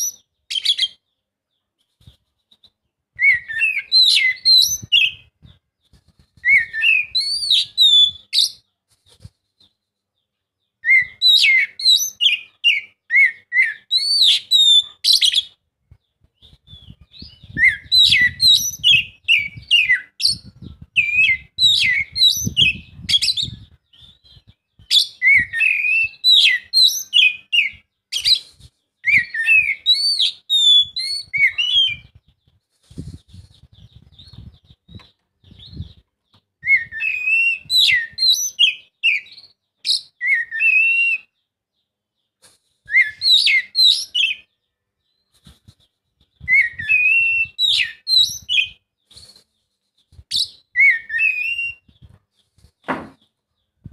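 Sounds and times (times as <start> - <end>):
bird singing whistled song: 0.0 - 1.1, 3.1 - 8.7, 10.8 - 32.4, 33.1 - 41.5, 42.8 - 45.3, 46.3 - 52.2.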